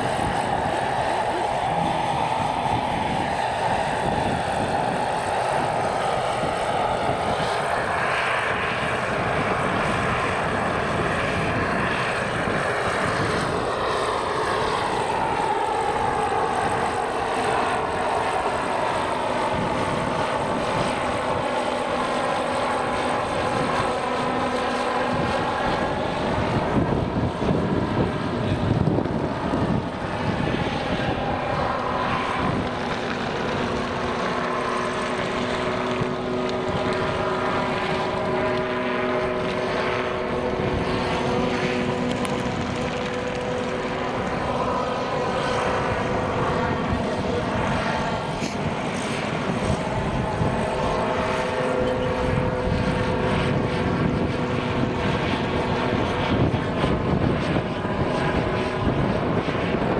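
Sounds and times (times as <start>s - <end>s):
model helicopter turbine whine: 0.0s - 59.9s
wind rumble on microphone: 0.0s - 59.9s.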